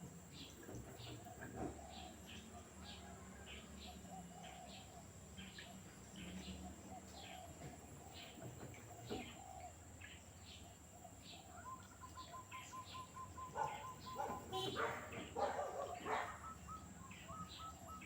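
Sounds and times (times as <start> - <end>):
small birds chirping: 0.1 - 18.0.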